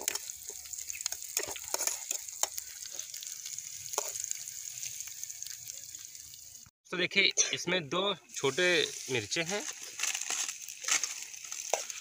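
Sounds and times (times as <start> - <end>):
onion and garlic sizzling in oil: 0.0 - 6.7, 7.6 - 12.0.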